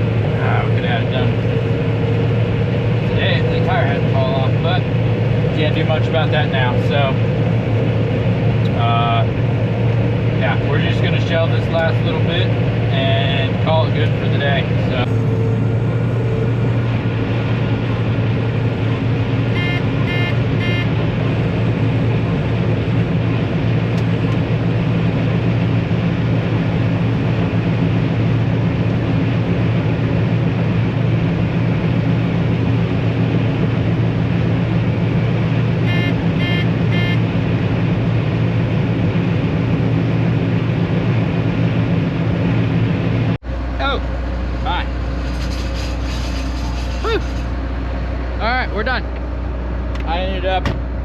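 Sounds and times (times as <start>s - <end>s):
combine harvester engine drone: 0.0s - 51.0s.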